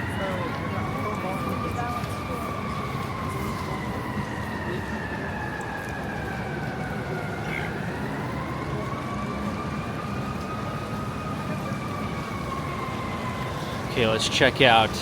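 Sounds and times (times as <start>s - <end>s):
city traffic rumble: 0.0s - 15.0s
emergency vehicle siren wailing: 0.0s - 15.0s.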